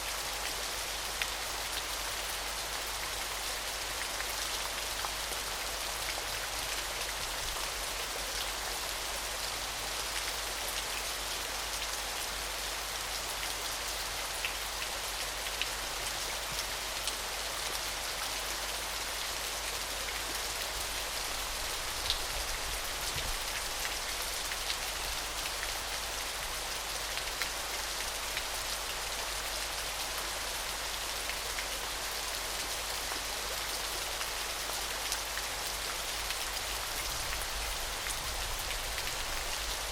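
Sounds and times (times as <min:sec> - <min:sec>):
small waterfall hissing: 0:00.0 - 0:39.9.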